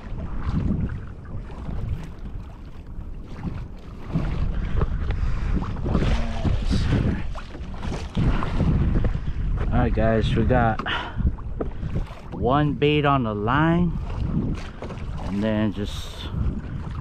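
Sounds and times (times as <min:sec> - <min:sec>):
water splashing against hull: 0:00.0 - 0:17.0
wind rumbling on microphone: 0:00.0 - 0:17.0.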